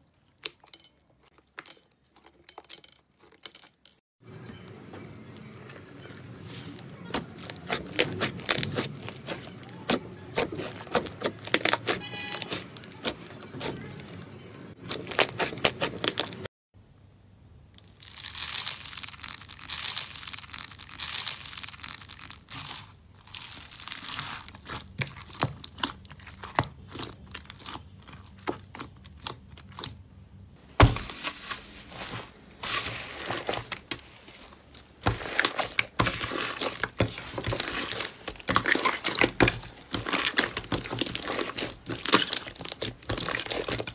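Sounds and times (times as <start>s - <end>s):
slime crackling and squelching: 0.0s - 3.4s, 5.4s - 16.5s, 17.8s - 30.0s, 30.8s - 43.9s.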